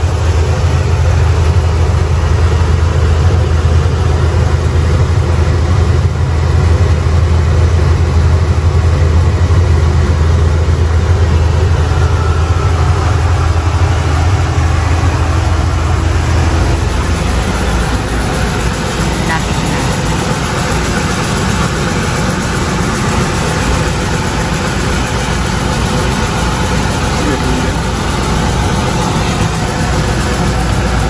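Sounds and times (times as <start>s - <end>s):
rice polishing machine humming: 0.0s - 31.0s.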